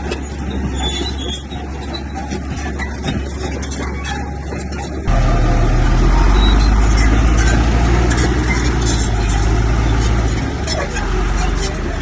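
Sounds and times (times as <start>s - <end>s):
heavy diesel engine rumbling: 0.0s - 12.0s.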